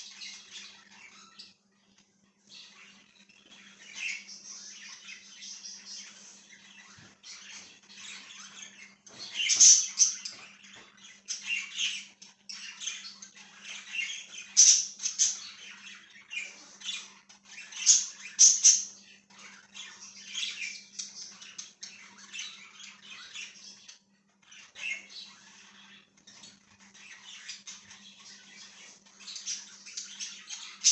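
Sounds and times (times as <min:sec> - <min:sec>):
budgies chirping and chattering: 0:00.0 - 0:30.9.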